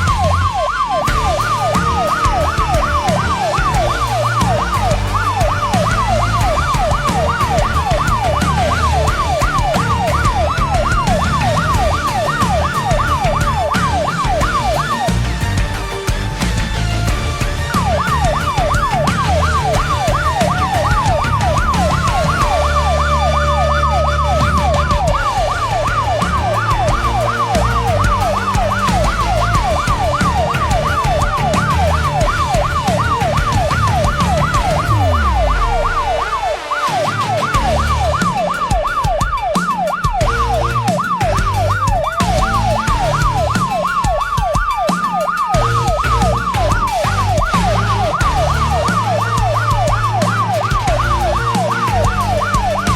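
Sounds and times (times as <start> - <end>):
wailing siren: 0.0 - 52.9
yelping siren: 0.0 - 52.9.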